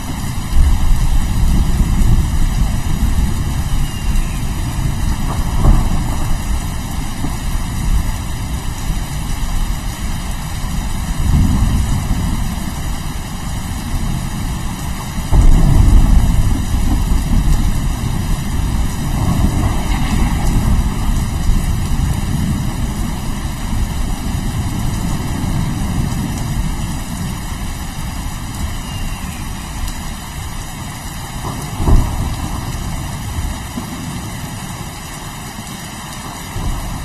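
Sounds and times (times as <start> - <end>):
rolling thunder: 0.0 - 34.7
steady rain: 0.0 - 37.0.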